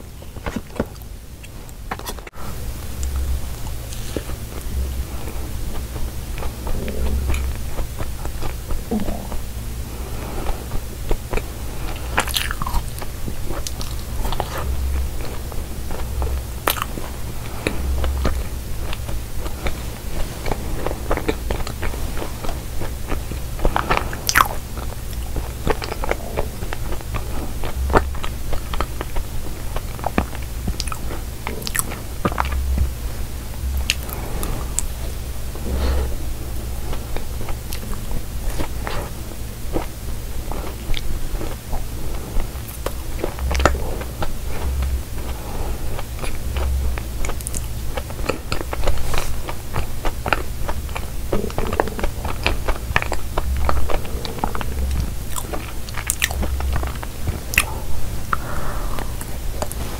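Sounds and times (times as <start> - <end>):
soft moist chewing: 0.0 - 59.9
cookie crust crunching: 1.7 - 58.4.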